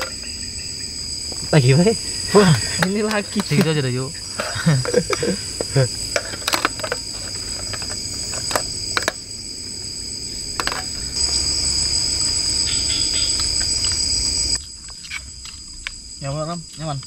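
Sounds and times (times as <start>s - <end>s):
chorus of night insects: 0.0s - 17.0s.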